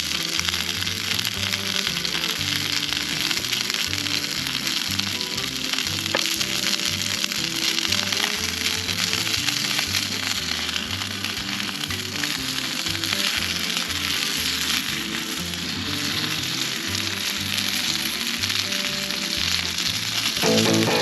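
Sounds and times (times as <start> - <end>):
background music with bass line: 0.0 - 21.0
food sizzling in a pan: 0.0 - 21.0.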